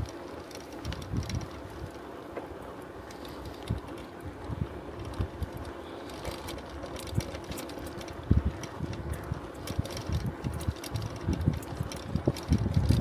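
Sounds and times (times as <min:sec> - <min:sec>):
bicycle clicking and rattling: 0:00.0 - 0:13.0
tyres on road: 0:00.0 - 0:13.0
wind buffeting microphone: 0:00.0 - 0:13.0.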